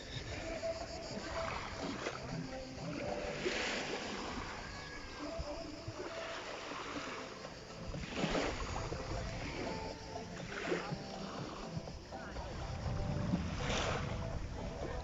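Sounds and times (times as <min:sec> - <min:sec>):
faint distant voices: 0:00.0 - 0:15.0
wind or surf rushing: 0:00.0 - 0:15.0.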